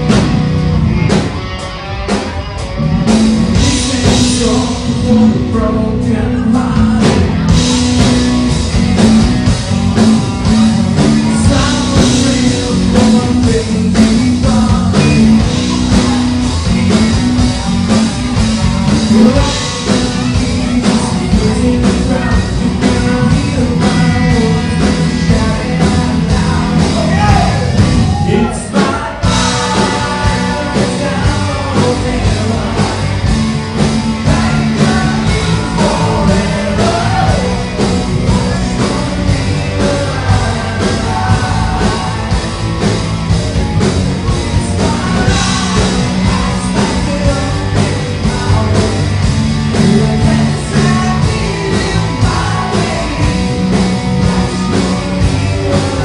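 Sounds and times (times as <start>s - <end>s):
drums: 0.0s - 56.0s
electric guitars: 0.0s - 56.0s
person singing lead vocal: 3.4s - 8.6s, 10.2s - 56.0s.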